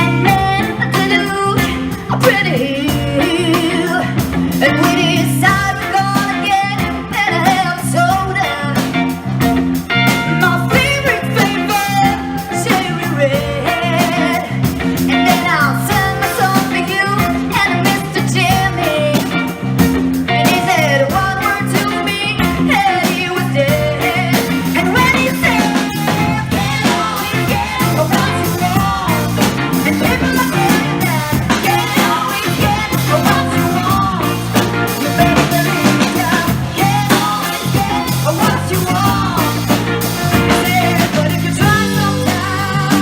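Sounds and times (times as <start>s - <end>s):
bending lead guitar lines: 0.0s - 43.0s
live blues-rock band: 0.0s - 43.0s.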